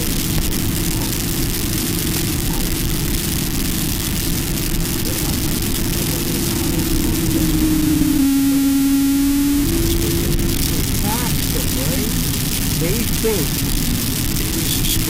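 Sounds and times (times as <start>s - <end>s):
jet engines humming: 0.0s - 15.0s
low rumble: 0.0s - 15.0s.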